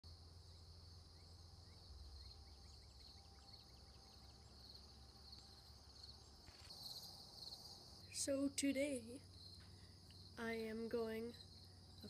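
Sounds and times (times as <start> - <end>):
crickets trilling: 0.1 - 12.0.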